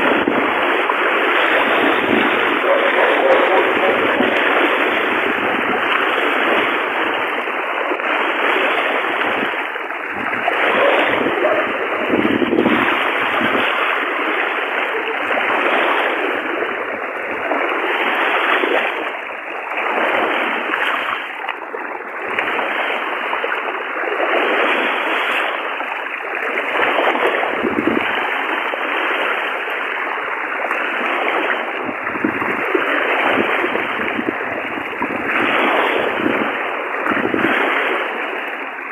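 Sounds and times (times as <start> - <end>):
rushing floodwater: 0.0 - 38.9.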